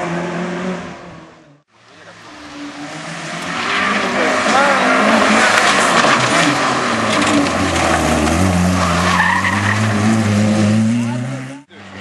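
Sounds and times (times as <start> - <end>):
tyres squealing and skidding: 2.0 - 12.0.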